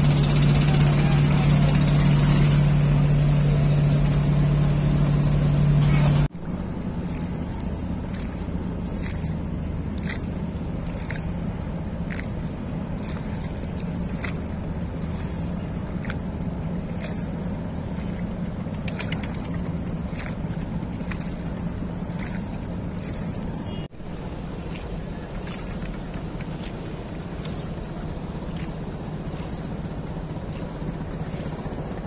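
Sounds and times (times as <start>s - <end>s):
boat engine hum: 0.0s - 32.0s
rushing water: 0.0s - 32.0s
water splashing against hull: 0.0s - 32.0s.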